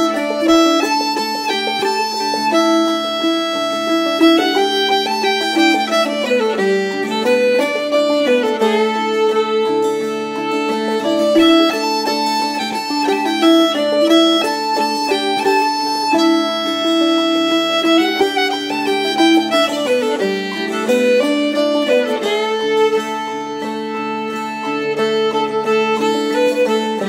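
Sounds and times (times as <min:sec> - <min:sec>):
fiddle melody: 0:00.0 - 0:27.0.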